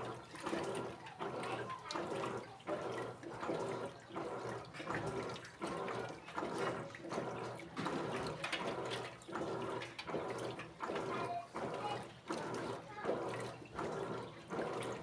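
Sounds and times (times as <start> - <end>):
water sloshing in washing machine: 0.0 - 15.0
washing machine motor hum: 2.8 - 15.0.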